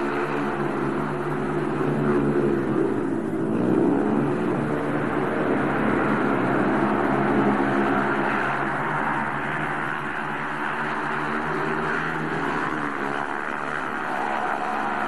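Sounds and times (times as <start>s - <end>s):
motorcycles racing: 0.0s - 15.0s.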